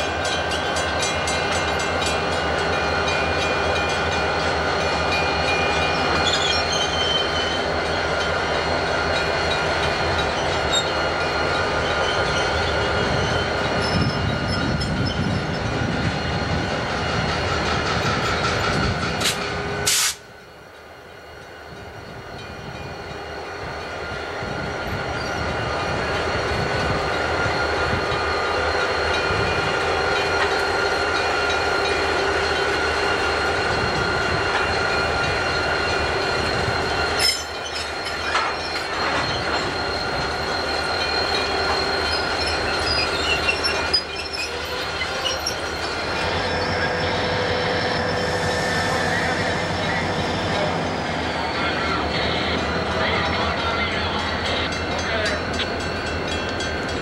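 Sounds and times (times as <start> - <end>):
diesel locomotive engines running: 0.0 - 57.0
steel wheels squealing on rails: 0.0 - 57.0.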